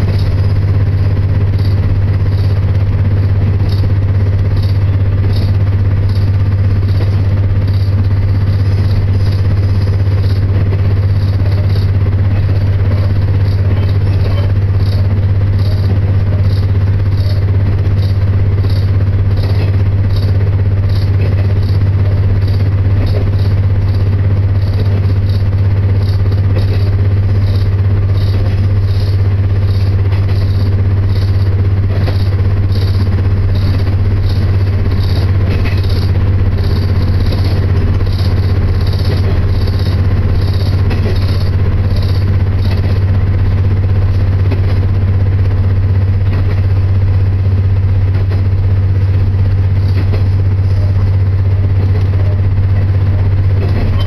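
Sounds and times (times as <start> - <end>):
low engine drone: 0.0 - 54.0
train clatter: 0.0 - 54.0.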